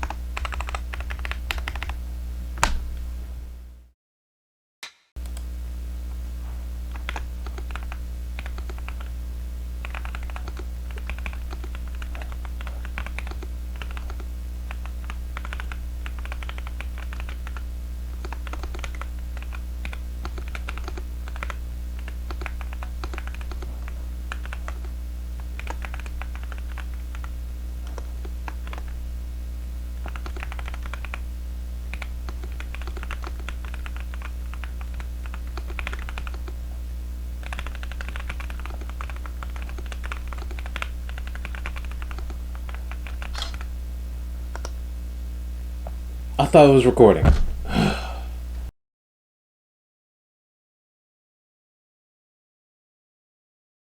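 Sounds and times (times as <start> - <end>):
low electrical hum: 0.0 - 3.9, 5.2 - 48.7.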